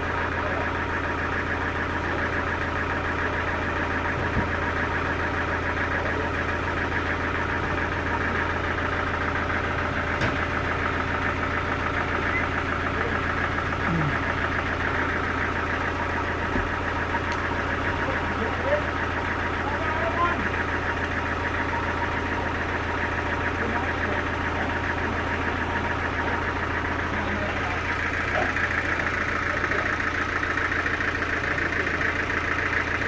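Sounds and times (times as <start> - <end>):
sawmill engine chugging: 0.0 - 33.0.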